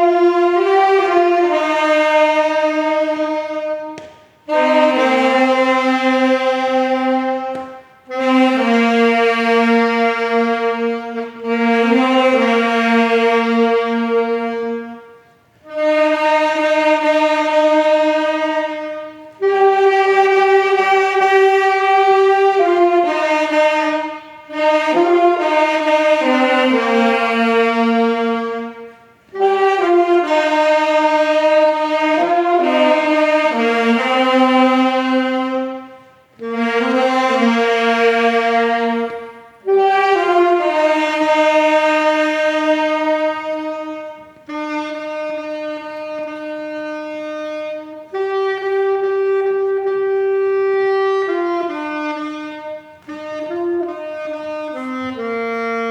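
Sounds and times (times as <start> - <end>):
slow wind instrument melody: 0.0 - 55.9.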